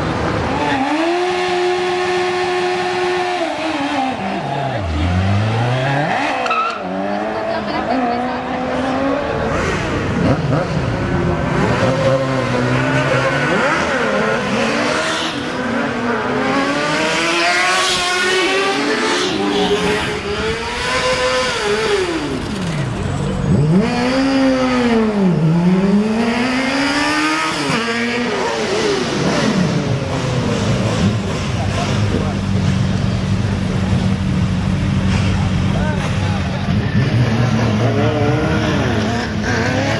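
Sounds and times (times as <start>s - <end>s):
motorcycles revving past: 0.2s - 39.9s.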